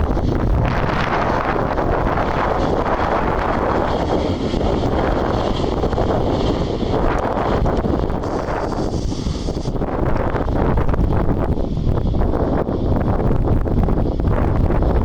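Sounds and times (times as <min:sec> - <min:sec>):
high whine: 0:00.0 - 0:15.0
jet engines rushing: 0:00.0 - 0:15.0
wind buffeting microphone: 0:00.0 - 0:15.0.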